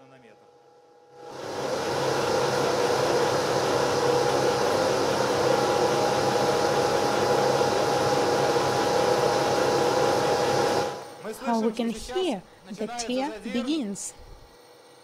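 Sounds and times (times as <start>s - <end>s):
mechanical whine over hum: 0.0s - 12.6s.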